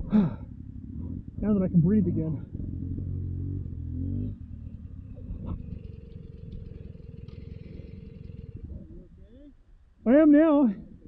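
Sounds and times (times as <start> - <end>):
two-stroke engine idling: 0.0 - 9.9.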